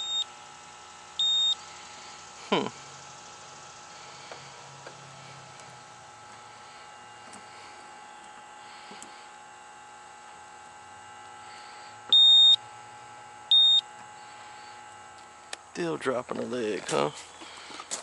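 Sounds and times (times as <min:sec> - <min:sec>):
low hum with constant tones: 0:00.0 - 0:18.0.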